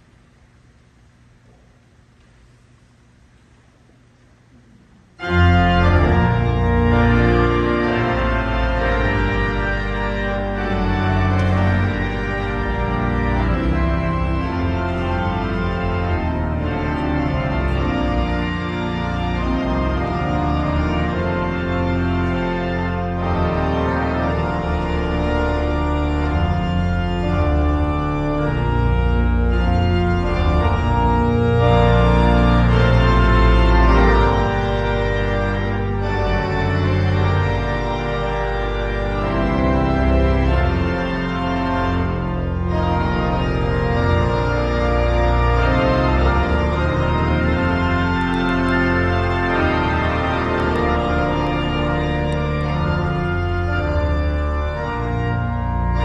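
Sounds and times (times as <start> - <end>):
pipe organ chords: 4.4 - 56.0.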